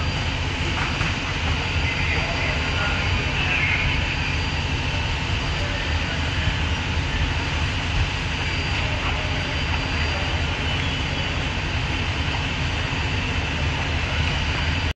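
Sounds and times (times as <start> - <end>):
engine rumble with hiss: 0.0 - 14.9.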